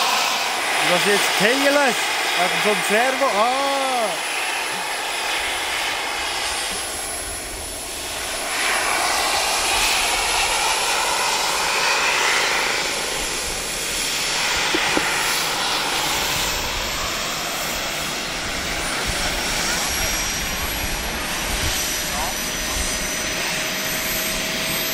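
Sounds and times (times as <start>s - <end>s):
model helicopter turbine and rotor: 0.0s - 24.9s.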